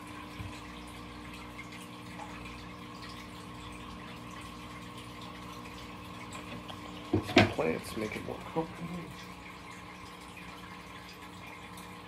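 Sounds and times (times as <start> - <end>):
aquarium filter hum: 0.0 - 12.0
water trickling: 0.0 - 12.0.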